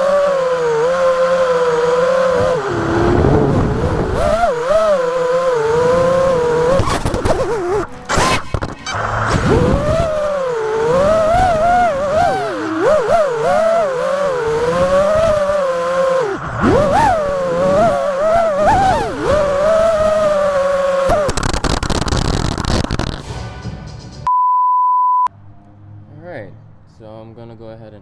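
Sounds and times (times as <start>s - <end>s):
quadcopter motors whining: 0.0s - 23.2s.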